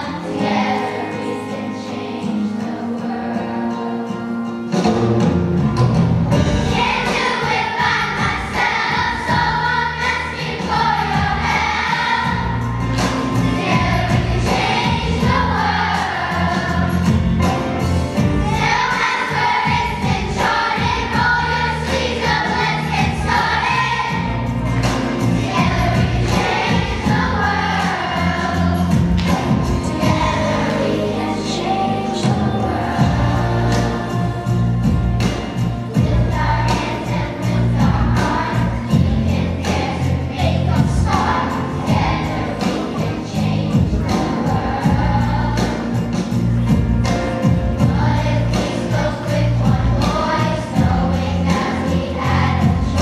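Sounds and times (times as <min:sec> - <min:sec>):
children's choir singing: 0:00.0 - 0:05.1, 0:06.0 - 0:53.0
instrumental accompaniment with beat: 0:03.7 - 0:53.0.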